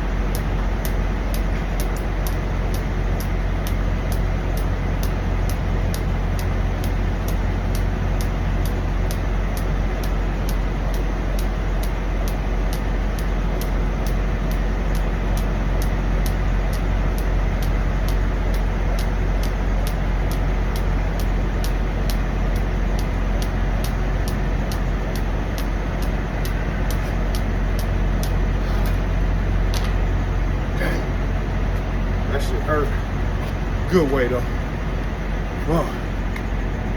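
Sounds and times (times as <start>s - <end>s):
diesel truck engines idling: 0.0s - 36.9s
faint regular ticking: 0.0s - 36.9s.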